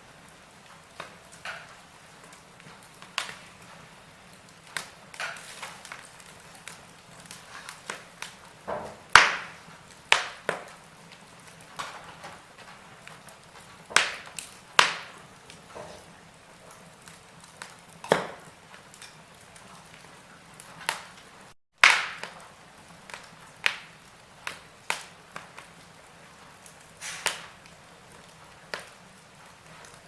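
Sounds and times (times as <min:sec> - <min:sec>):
faint steady hiss: 0:00.0 - 0:30.0
wood fire crackling and popping: 0:00.0 - 0:30.0.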